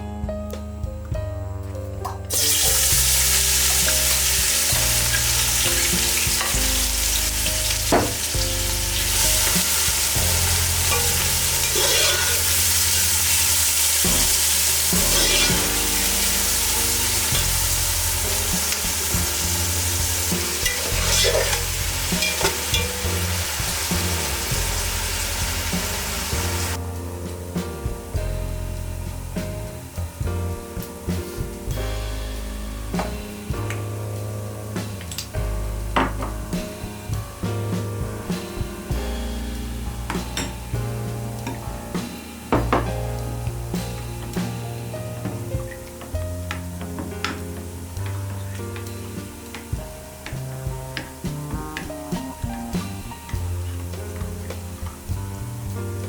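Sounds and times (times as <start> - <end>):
food sizzling in frying pan: 2.3 - 26.8, 33.3 - 55.8.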